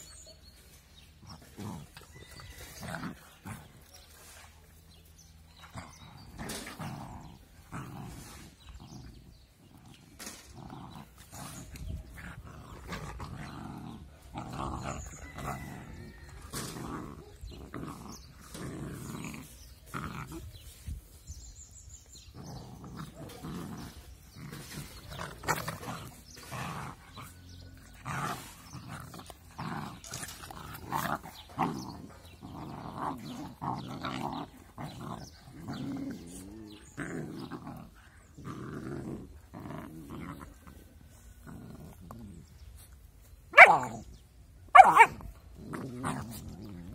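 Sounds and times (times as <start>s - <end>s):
puppies growling: 0.0s - 46.9s.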